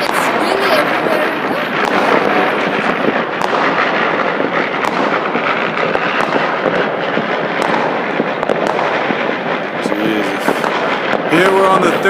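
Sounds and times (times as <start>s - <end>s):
firecrackers crackling: 0.0s - 12.0s
sharp firework bangs: 0.0s - 12.0s.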